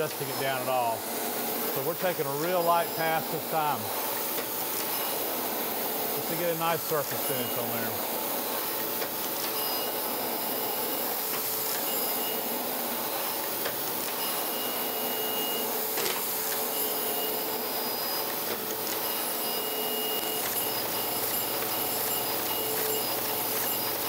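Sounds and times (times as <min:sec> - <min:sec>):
grinding wheel hissing on steel: 0:00.0 - 0:24.0.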